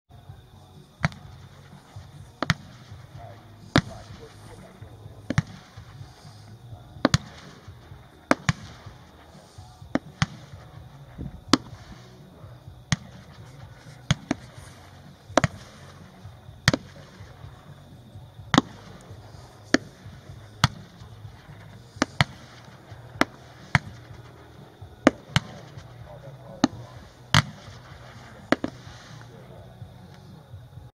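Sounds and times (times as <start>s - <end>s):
firework bangs: 0.7s - 30.4s.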